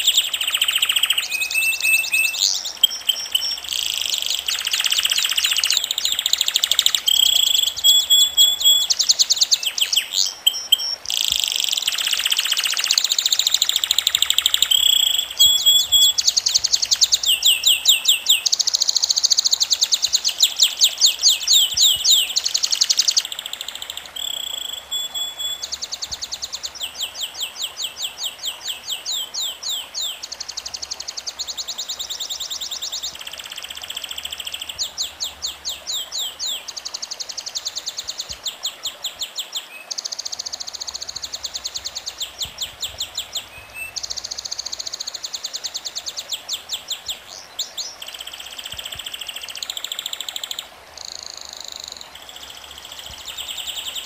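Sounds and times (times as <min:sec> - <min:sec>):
songbird trilling: 0:00.0 - 0:54.0.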